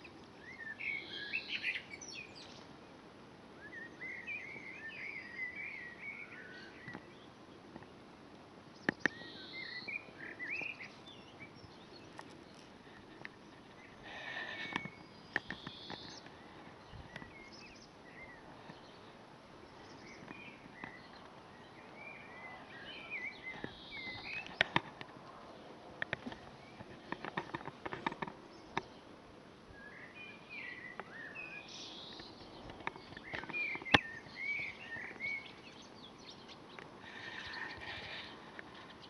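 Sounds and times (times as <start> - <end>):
faint bird chirps: 0.0 - 2.8, 3.5 - 7.9, 8.7 - 24.9, 29.7 - 39.0
low background hiss: 0.0 - 39.0.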